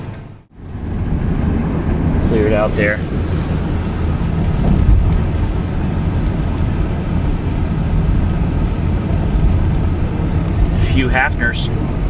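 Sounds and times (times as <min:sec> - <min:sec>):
car interior engine and tyre rumble: 0:00.0 - 0:12.0.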